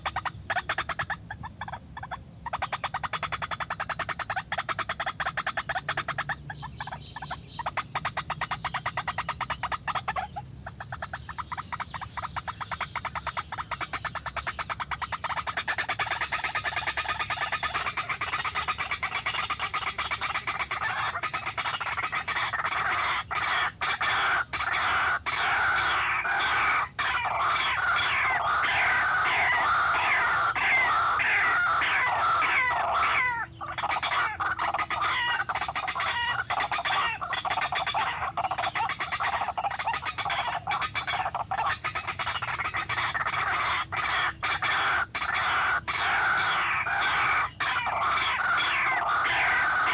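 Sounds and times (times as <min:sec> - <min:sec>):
waterhen calling with rapid croaks: 0:00.0 - 0:49.9.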